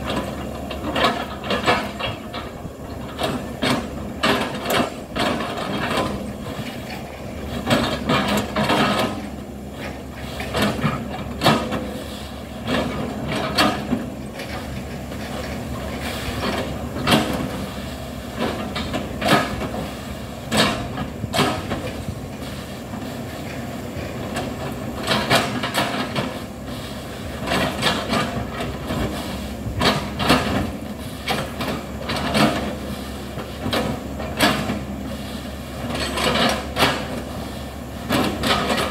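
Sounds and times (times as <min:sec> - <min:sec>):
metal clanks and knocks: 0:00.0 - 0:26.5, 0:27.4 - 0:38.9
excavator diesel engine running: 0:00.0 - 0:38.9.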